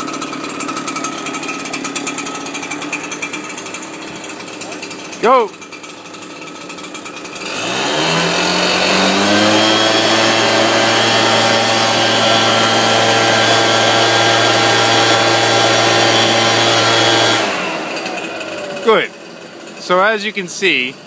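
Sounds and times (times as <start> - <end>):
leaf blower revving: 0.0 - 21.0.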